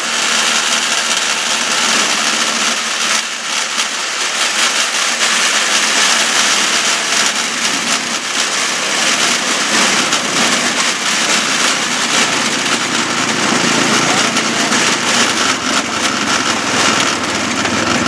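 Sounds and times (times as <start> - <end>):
small engine running: 0.0 - 18.0
wheels rolling over rails: 0.0 - 18.0.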